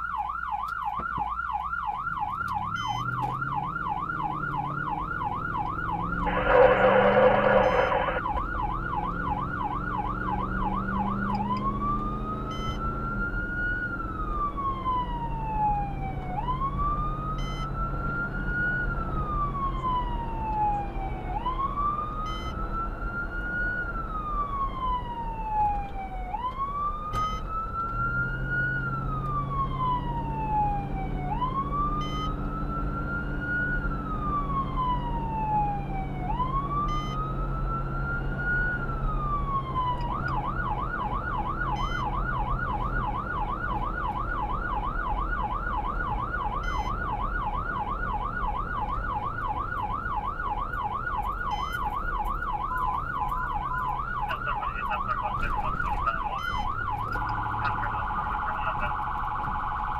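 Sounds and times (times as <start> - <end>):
electronic emergency siren: 0.0 - 59.9
road noise: 0.0 - 59.9
vehicle engine: 1.9 - 59.9.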